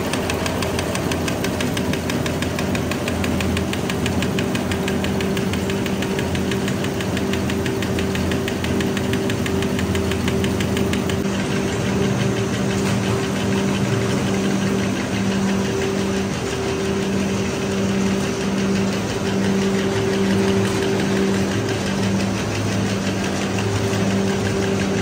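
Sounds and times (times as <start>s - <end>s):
machine electric hum: 0.0s - 25.0s
rotary cutter rapid ticking: 0.0s - 25.0s.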